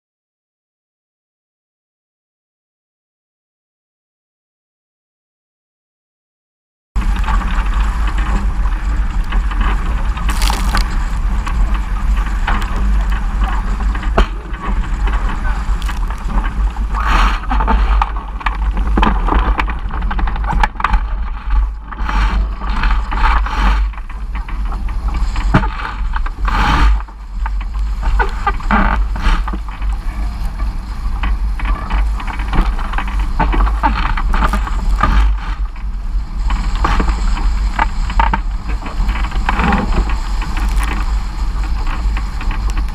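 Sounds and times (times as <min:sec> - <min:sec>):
water rushing along hull: 0:07.0 - 0:42.9
wind buffeting microphone: 0:07.0 - 0:42.9.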